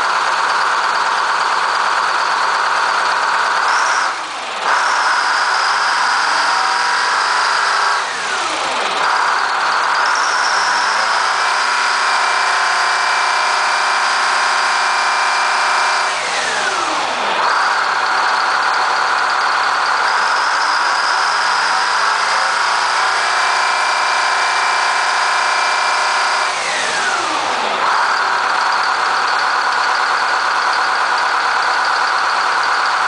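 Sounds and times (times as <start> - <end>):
diesel bus engine revving: 0.0 - 33.0.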